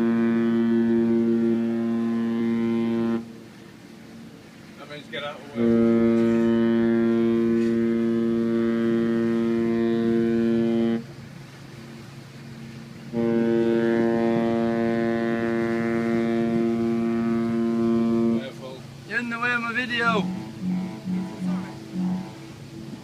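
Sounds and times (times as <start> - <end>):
ship's horn blasts: 0.0 - 23.0.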